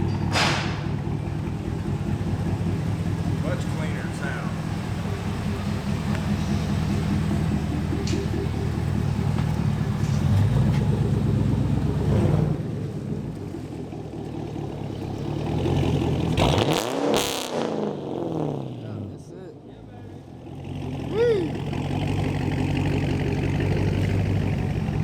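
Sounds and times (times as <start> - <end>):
car engine and exhaust running: 0.0 - 25.0
car engine revving: 0.0 - 25.0.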